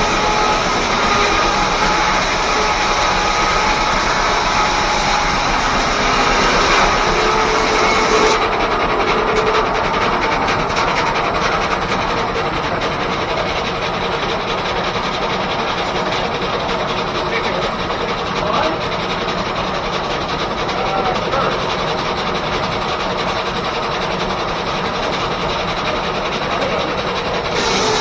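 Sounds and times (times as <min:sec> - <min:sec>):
sawmill machinery running: 0:00.0 - 0:28.0.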